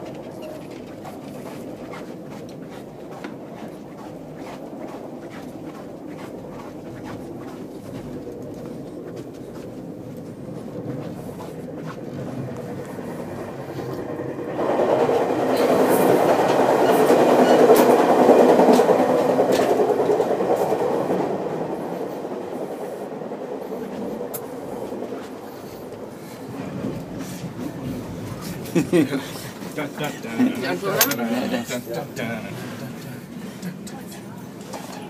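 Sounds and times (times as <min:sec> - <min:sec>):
train clicks: 0:00.0 - 0:35.0
train rumbling on rails: 0:00.0 - 0:35.0.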